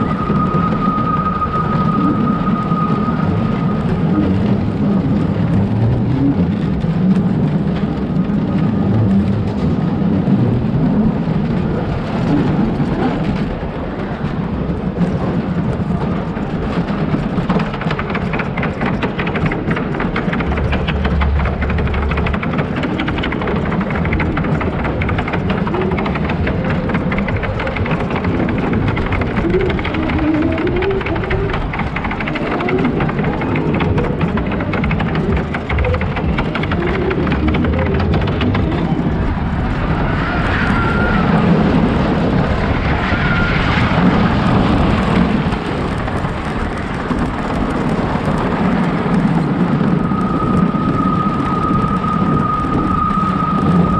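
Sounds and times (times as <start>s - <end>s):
roller coaster rumbling on track: 0.0s - 53.9s.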